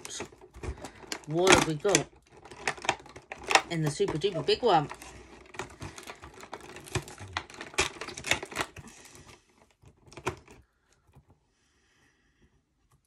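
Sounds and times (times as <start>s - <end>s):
cardboard clicks and crackles: 0.0s - 11.4s.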